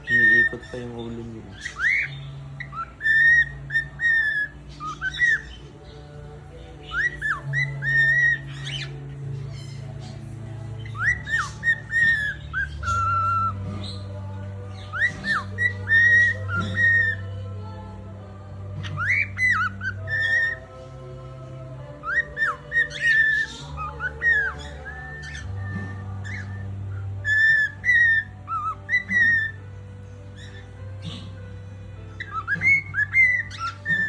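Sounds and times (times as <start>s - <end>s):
parrot whistling a tune: 0.0s - 6.0s, 6.6s - 17.4s, 18.8s - 34.0s
low background music: 0.0s - 34.0s.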